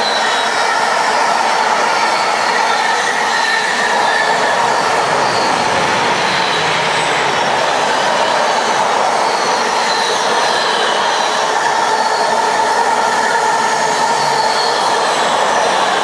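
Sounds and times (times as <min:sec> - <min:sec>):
faint high wheel squealing: 0:00.0 - 0:16.0
freight train wheel and rail noise: 0:00.0 - 0:16.0.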